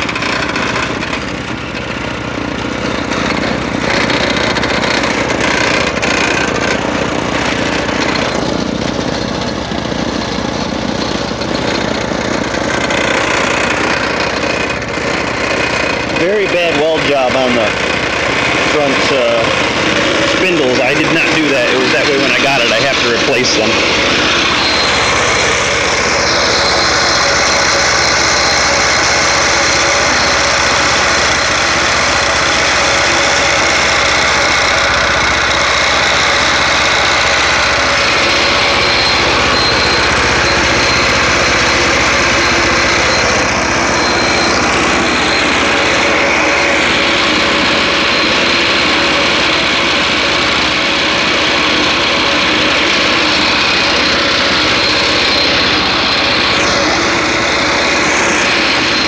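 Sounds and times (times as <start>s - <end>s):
go-kart engine running steadily: 0.0s - 59.0s.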